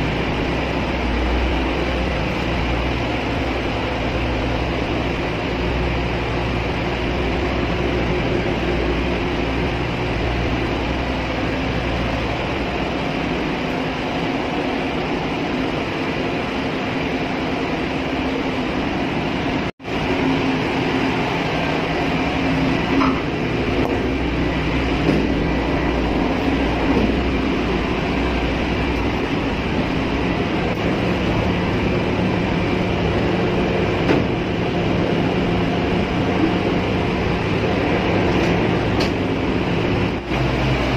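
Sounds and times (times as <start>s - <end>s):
engine-room machinery drone: 0.0s - 40.9s.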